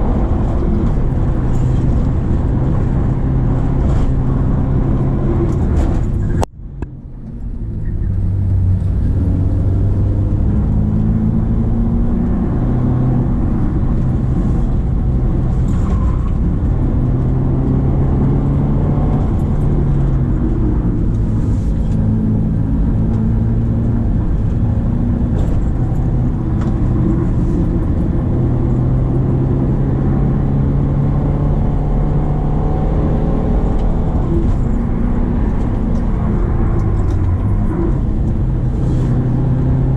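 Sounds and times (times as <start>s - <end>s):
car engine pulling uphill: 0.0s - 39.9s.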